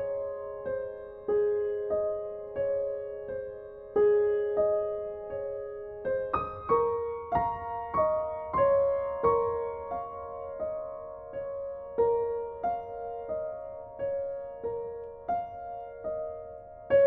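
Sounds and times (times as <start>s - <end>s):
slow gentle piano melody: 0.0s - 17.0s.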